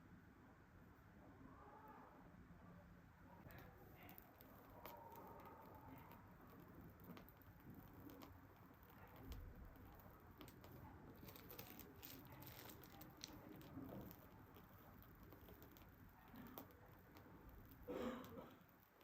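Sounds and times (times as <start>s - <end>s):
small clicks and light taps: 3.4s - 19.0s.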